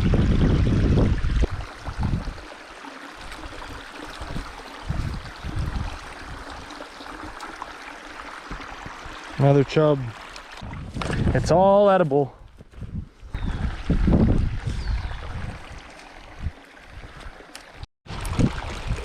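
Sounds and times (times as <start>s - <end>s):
creek water running: 0.0s - 12.3s, 13.2s - 19.0s.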